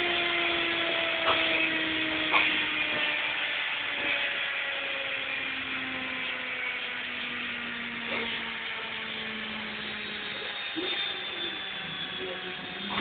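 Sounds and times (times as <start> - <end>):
washing machine motor whine: 0.0 - 13.0.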